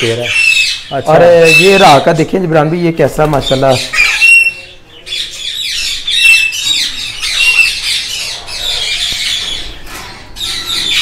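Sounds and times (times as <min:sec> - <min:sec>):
parakeets squawking: 0:00.0 - 0:11.0.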